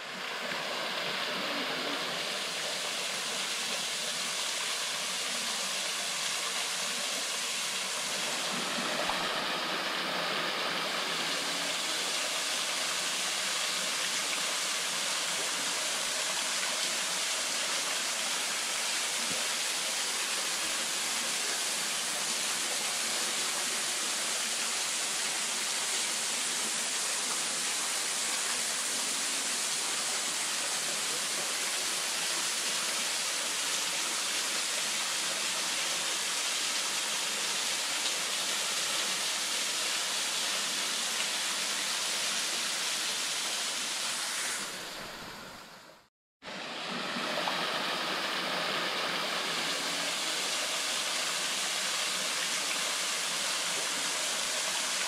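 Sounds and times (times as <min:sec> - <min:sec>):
waterfall splashing into pool: 0:00.0 - 0:45.1, 0:46.5 - 0:55.0.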